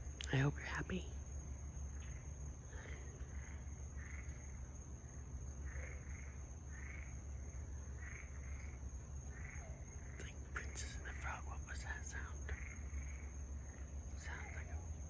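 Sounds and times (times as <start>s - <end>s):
frogs calling: 0.0s - 15.0s
steady high-pitched whine: 0.0s - 15.0s.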